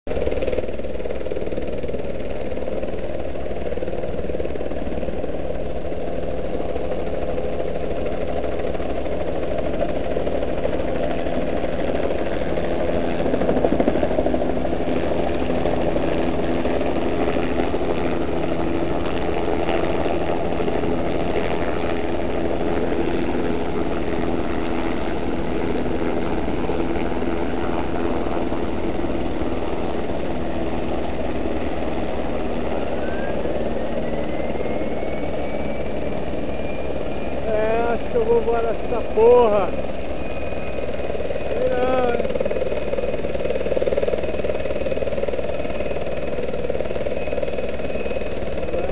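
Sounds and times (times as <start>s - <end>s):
helicopter rotor beat: 0.1s - 48.9s
helicopter turbine whine: 0.1s - 48.9s.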